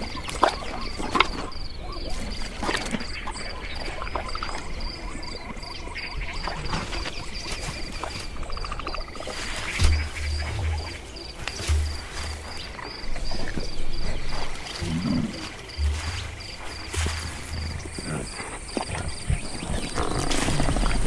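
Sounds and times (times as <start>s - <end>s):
frogs croaking: 0.0s - 21.0s
insects chirping: 0.0s - 21.0s.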